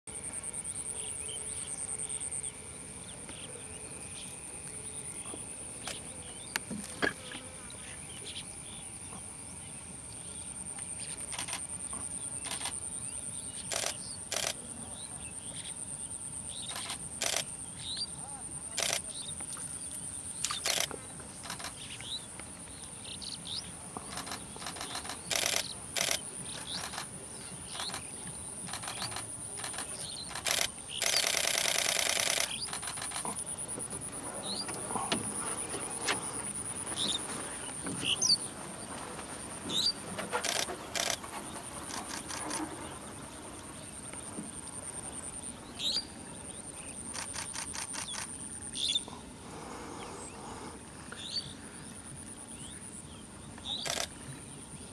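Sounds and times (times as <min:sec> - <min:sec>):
high insect whine: 0:00.1 - 0:54.9.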